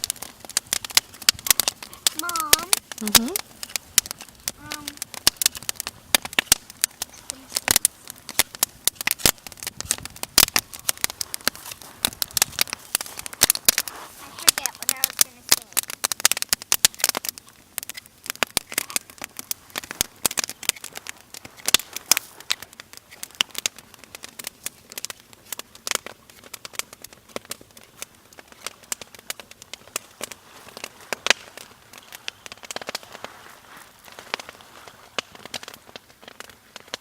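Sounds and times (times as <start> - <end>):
campfire crackling and popping: 0.0 - 37.0.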